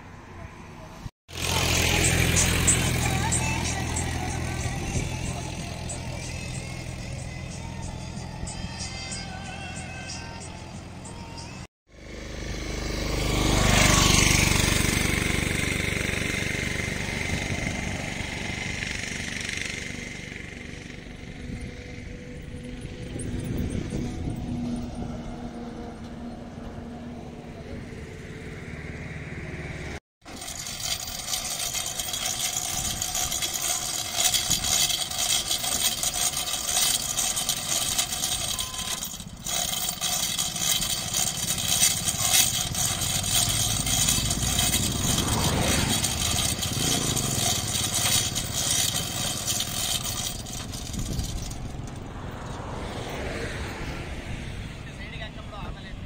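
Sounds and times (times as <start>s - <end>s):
auto-rickshaw driving past: 0.0s - 55.9s
hum of passing vehicles: 0.0s - 56.0s
rough fluctuating outdoor noise: 0.0s - 56.0s.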